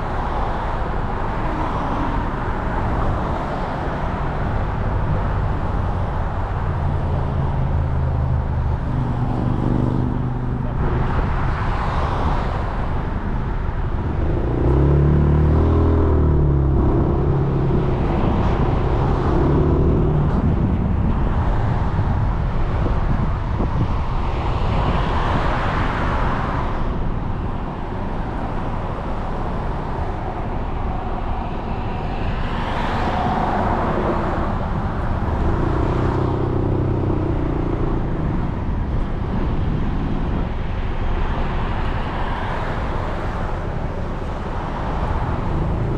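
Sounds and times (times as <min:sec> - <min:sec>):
passing vehicles: 0:00.0 - 0:45.9
wind and road noise: 0:00.0 - 0:45.9.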